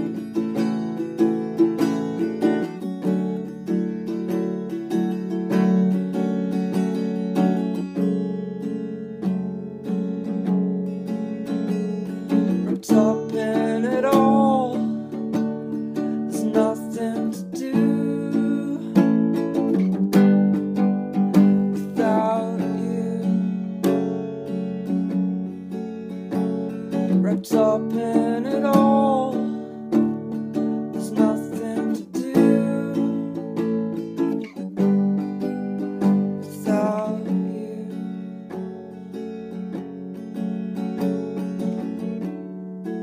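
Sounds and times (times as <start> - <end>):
acoustic guitar strumming chords: 0.0 - 43.0.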